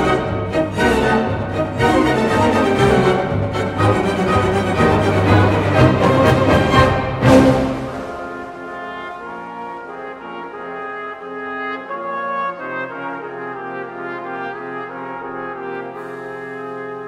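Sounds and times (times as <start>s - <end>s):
brass: 0.0s - 17.0s
orchestra playing sustained chords: 0.0s - 17.0s.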